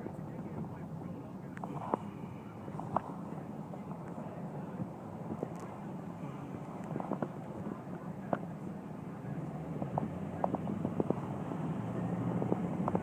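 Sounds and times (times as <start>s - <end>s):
car engine and tyres drone: 0.0s - 13.0s.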